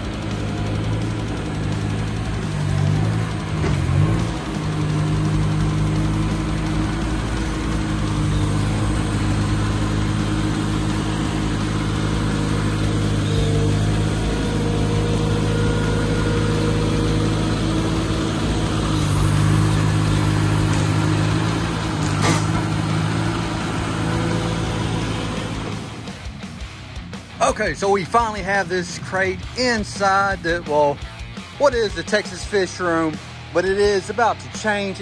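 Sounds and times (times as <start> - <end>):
forklift engine running: 0.0 - 35.0.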